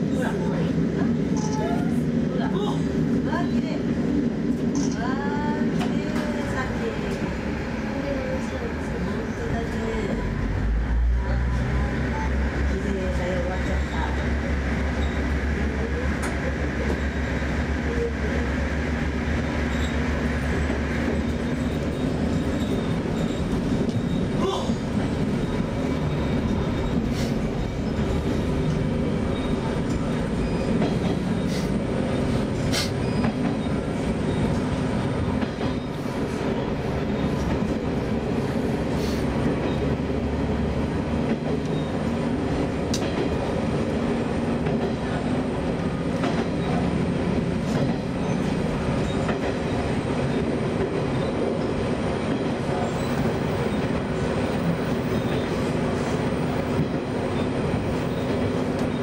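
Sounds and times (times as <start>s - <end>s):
low tunnel hum: 0.0s - 59.0s
train wheels rumbling: 0.0s - 59.0s.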